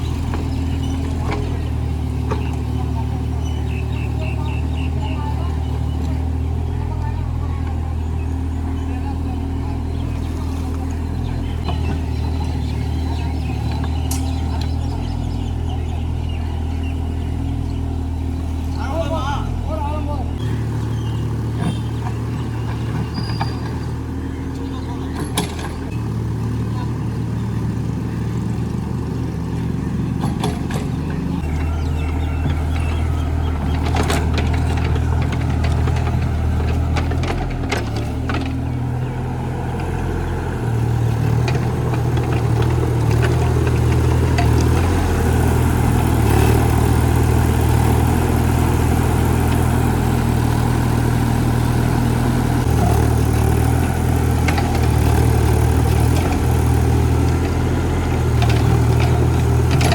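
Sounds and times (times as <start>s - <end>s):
digger engine running: 0.0s - 59.9s.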